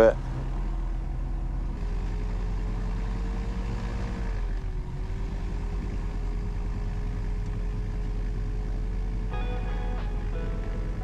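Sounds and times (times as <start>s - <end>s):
aircraft engine running: 0.0s - 11.0s.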